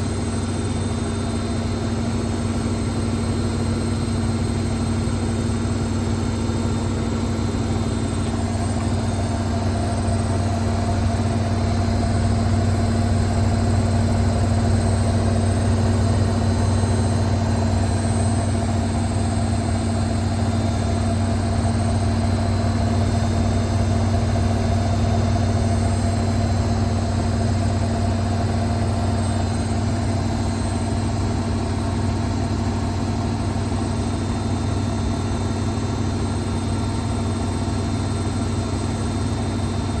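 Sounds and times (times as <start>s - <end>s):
motor hum and whine: 0.0s - 40.0s.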